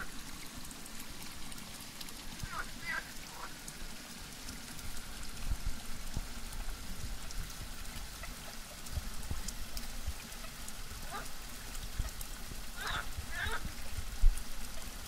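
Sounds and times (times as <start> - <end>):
stream splashing over stones: 0.0 - 15.0.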